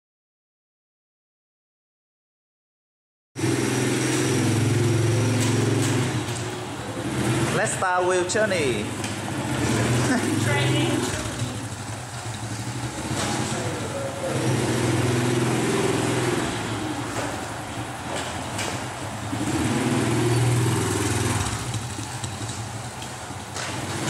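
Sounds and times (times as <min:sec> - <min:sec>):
small motorbike engine running: 0:03.4 - 0:24.0.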